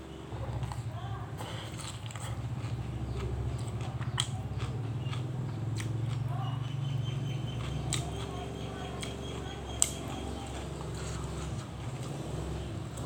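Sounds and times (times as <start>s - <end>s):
chewing and biting: 0.4s - 13.0s.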